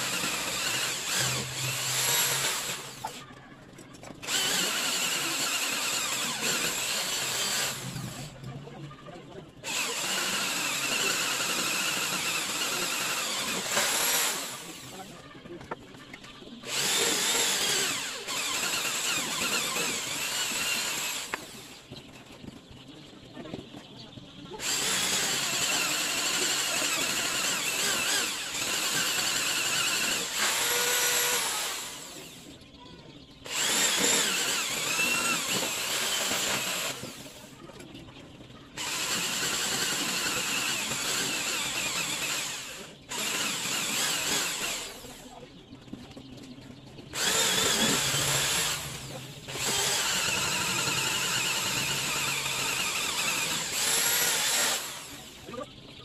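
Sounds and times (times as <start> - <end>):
electric drill boring into wood: 0.0 - 3.3, 4.1 - 8.4, 9.6 - 15.2, 16.6 - 21.9, 24.6 - 32.6, 33.4 - 37.6, 38.8 - 45.4, 47.1 - 55.6.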